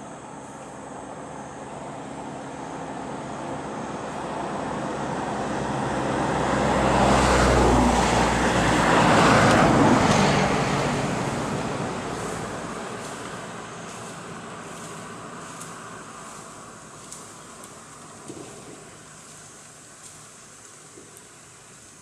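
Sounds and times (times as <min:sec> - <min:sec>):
vehicle passing by: 0:01.6 - 0:20.2.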